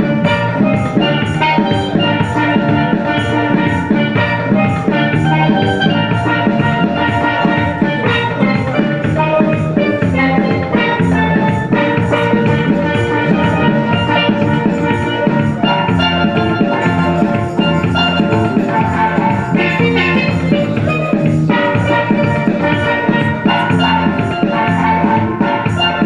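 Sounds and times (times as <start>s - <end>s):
steady drum beat: 0.0s - 26.0s
steel pans playing: 0.0s - 26.0s.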